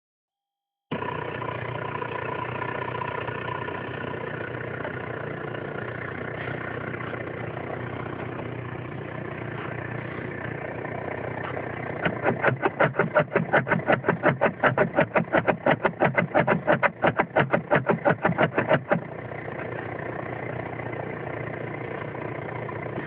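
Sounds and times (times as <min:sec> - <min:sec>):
car engine running: 0:00.9 - 0:23.0.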